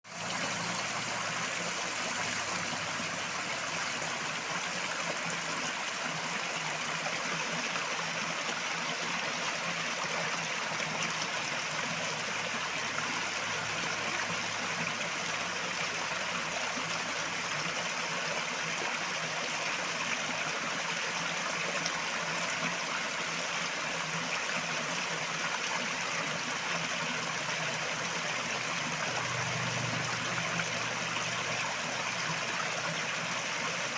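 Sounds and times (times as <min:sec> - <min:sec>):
river water flowing over rocks: 0:00.1 - 0:33.9.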